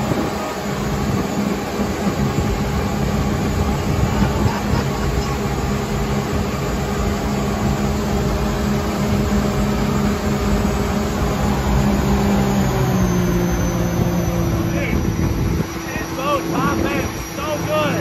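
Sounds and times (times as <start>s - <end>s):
boat engine running hard: 0.0s - 18.0s
water and wind rushing: 0.0s - 18.0s.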